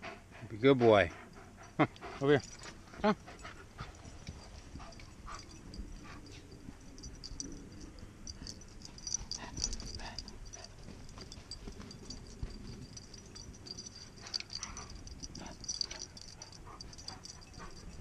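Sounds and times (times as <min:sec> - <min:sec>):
dogs sniffing and scuffing on sand: 0:02.0 - 0:07.5, 0:08.3 - 0:18.0
light high ticks: 0:03.4 - 0:18.0.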